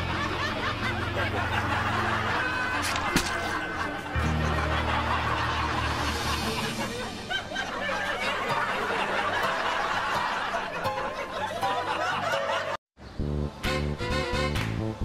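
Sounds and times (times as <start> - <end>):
laugh track: 0.0 - 12.8
light background music: 0.0 - 15.0.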